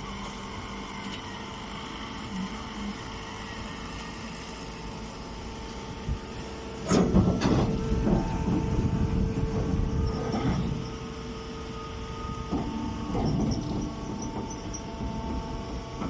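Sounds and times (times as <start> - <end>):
baling machine humming: 0.0 - 16.0.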